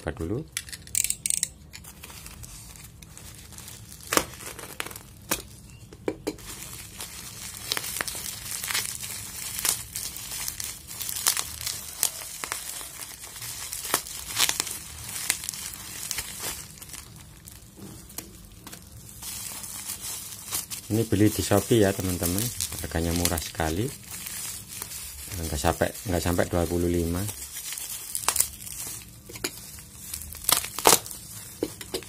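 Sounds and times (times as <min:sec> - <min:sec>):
plastic packaging crinkling: 0:00.6 - 0:32.0.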